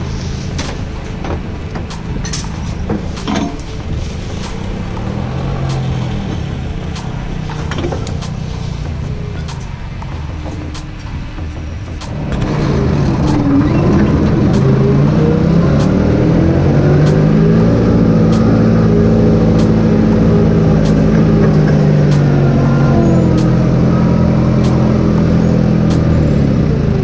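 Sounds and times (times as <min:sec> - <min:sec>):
forklift engine revving: 0:00.0 - 0:27.0.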